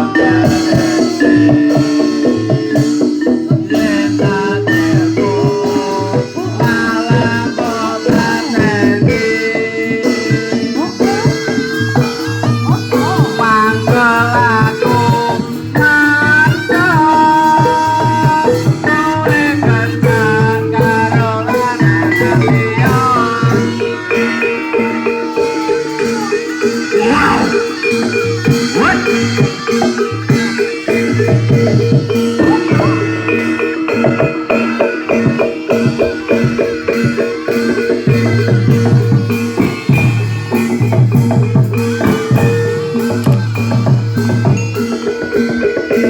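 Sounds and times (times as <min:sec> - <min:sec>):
drum beats: 0:00.0 - 0:46.0
struck metallophone notes: 0:00.0 - 0:46.0
wavering melody line: 0:00.0 - 0:46.0.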